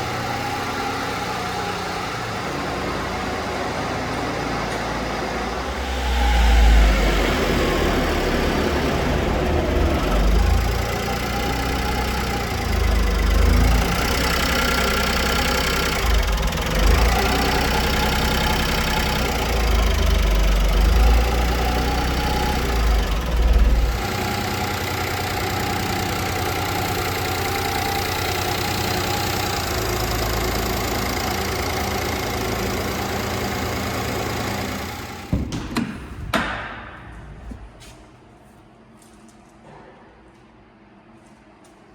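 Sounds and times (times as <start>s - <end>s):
small truck engine idling: 0.0s - 35.7s.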